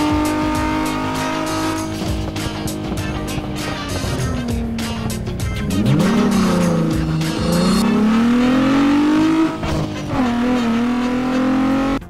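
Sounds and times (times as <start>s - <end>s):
background music: 0.0s - 12.0s
cartoon truck engine revving: 0.0s - 12.0s.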